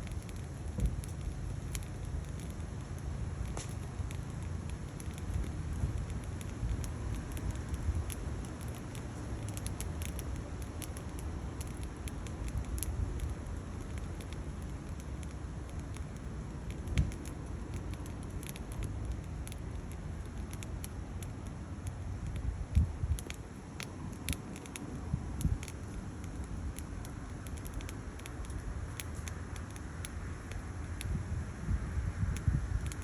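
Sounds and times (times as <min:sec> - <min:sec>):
firewood crackling and popping: 0:00.0 - 0:33.0
low rumble of stove: 0:00.0 - 0:33.0.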